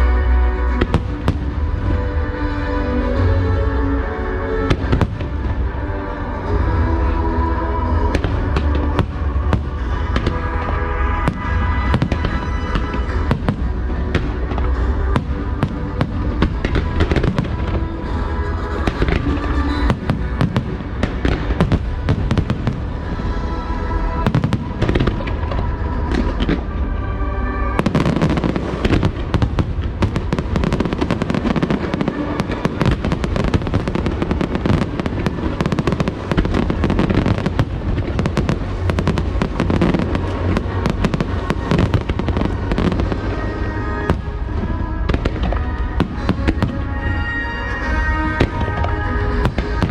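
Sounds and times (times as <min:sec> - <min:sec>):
fireworks bursting and crackling: 0:00.0 - 0:49.9
loud show music: 0:00.0 - 0:49.9.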